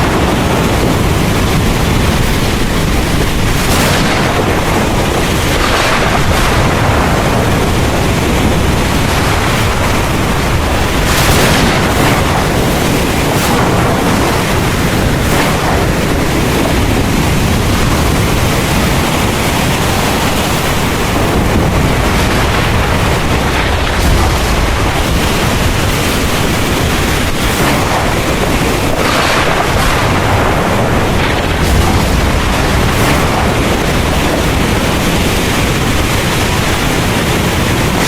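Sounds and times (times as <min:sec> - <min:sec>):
deep thunder rumble: 0:00.0 - 0:38.0
heavy rain hissing: 0:00.0 - 0:38.0.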